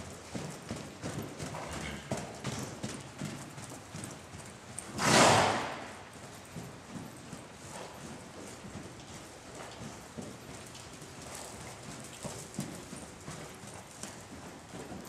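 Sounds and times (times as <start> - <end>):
hoofbeats on dirt: 0.0 - 15.0.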